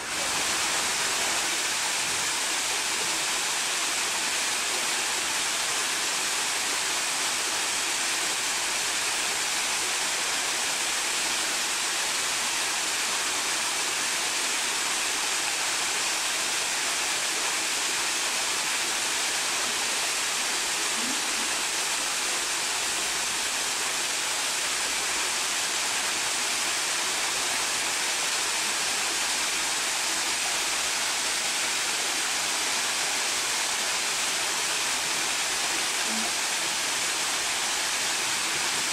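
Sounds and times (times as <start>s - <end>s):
water rushing down waterfall: 0.0s - 38.9s.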